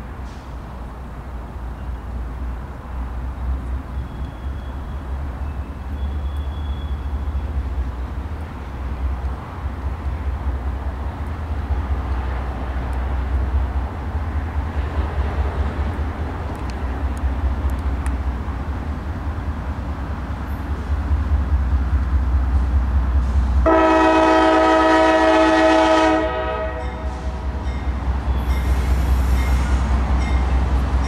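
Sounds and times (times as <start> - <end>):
diesel locomotives droning under load: 0.0 - 31.0.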